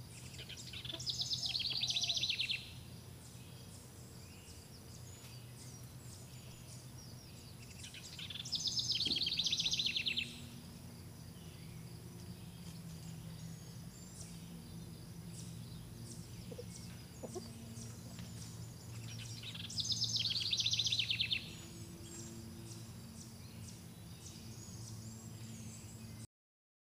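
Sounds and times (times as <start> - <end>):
low steady hum: 0.0 - 26.3
small birds chirping: 0.0 - 26.3.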